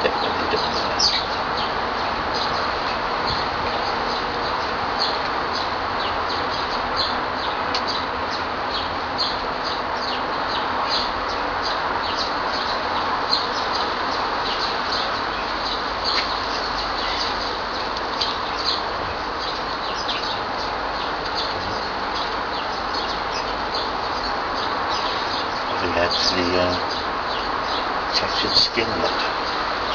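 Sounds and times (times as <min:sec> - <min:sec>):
small birds chirping: 0:00.0 - 0:29.9
steady background hiss: 0:00.0 - 0:29.9.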